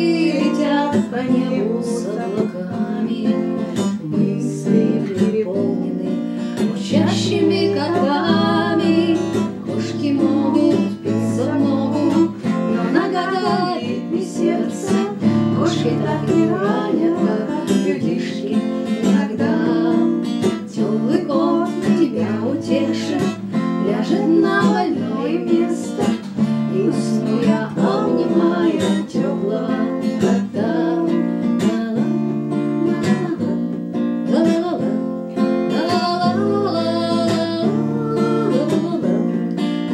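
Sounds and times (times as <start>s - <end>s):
acoustic guitar strumming: 0.0s - 39.9s
woman singing: 0.0s - 39.9s.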